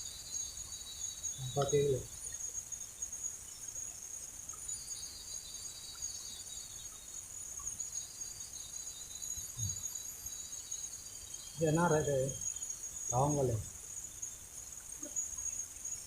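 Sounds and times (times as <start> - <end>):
high-pitched insect chorus: 0.0 - 16.0
lower pulsing insect trill: 0.0 - 16.0.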